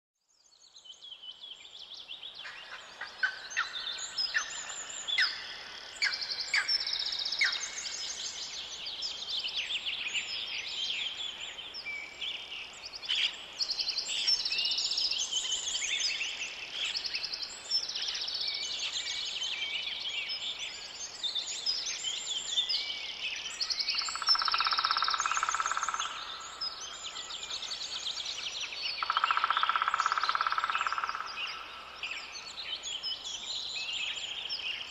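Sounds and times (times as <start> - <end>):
songbirds singing: 0.2 - 34.9.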